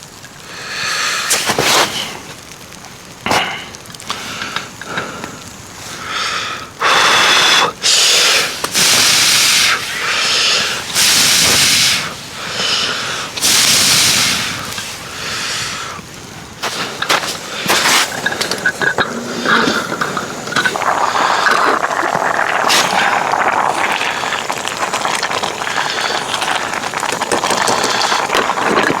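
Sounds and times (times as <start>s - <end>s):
hard blowing breaths: 0.4s - 2.4s, 3.2s - 29.0s.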